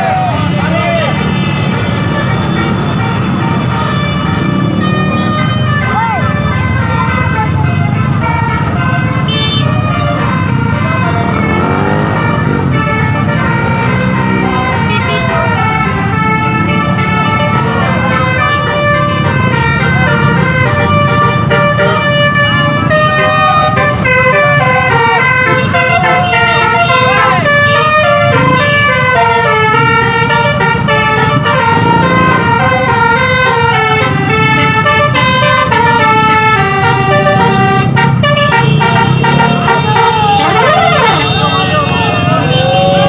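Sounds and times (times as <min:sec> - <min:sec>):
bus musical horn melody: 0:00.0 - 0:06.0, 0:06.6 - 0:43.0.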